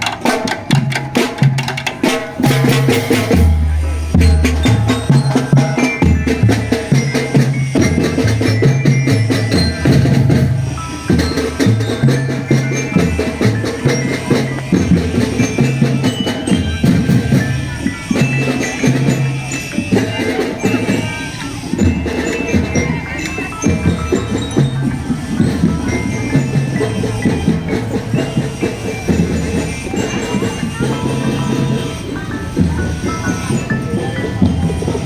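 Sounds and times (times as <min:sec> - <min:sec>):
marching drum band playing: 0:00.0 - 0:35.0.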